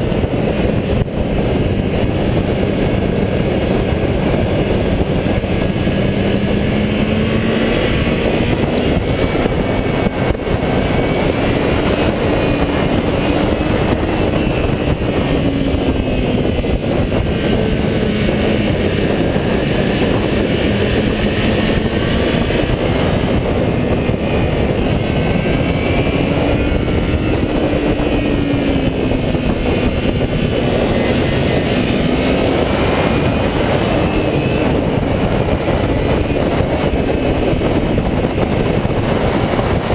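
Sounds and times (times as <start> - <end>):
motorcycle engine under load: 0.0 - 39.9
wind rushing on microphone: 0.0 - 39.9.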